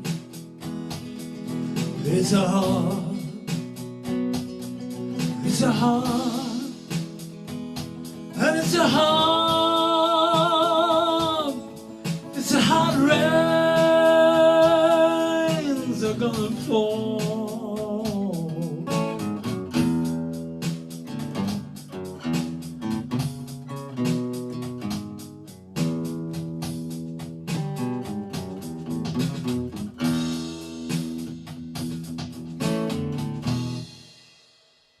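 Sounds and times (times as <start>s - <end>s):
guitar strumming and picking: 0.0s - 34.2s.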